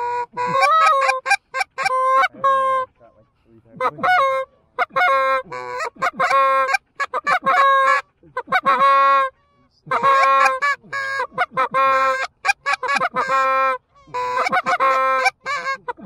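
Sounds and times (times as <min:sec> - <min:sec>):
goose call honks and clucks: 0:00.0 - 0:16.0.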